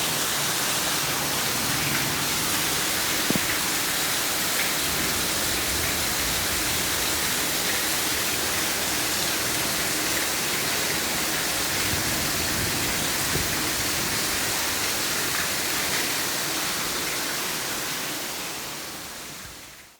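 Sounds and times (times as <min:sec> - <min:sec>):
heavy rain: 0:00.0 - 0:19.9.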